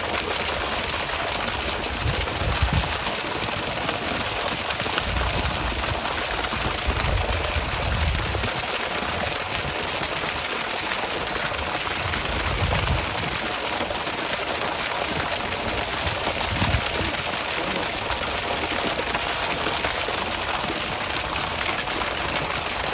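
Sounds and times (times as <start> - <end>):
water gushing and splashing: 0.0 - 22.9.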